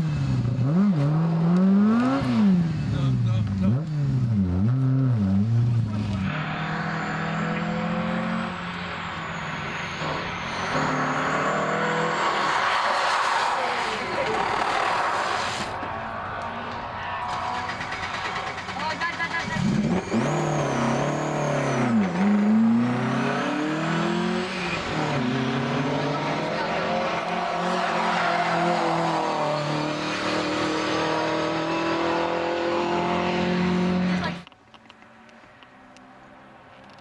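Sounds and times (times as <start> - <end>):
rally car engine revving: 0.0 - 34.5.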